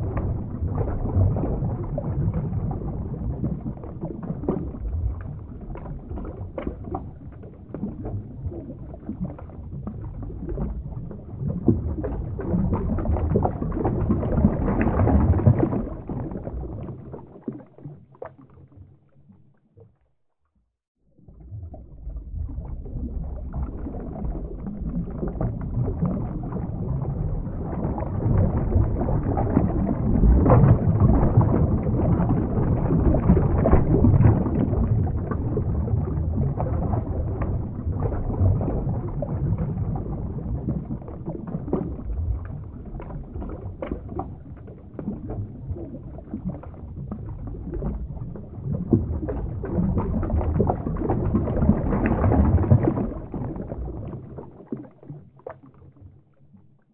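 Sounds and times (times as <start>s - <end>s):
muffled underwater rushing: 0.0s - 20.3s, 21.0s - 56.9s
small underwater clicks: 0.0s - 20.7s, 21.6s - 56.9s.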